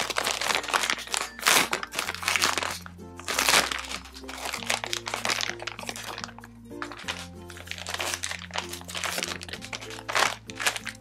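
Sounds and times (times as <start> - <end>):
background music with bass: 0.0 - 11.0
plastic bag crinkling: 0.0 - 11.0.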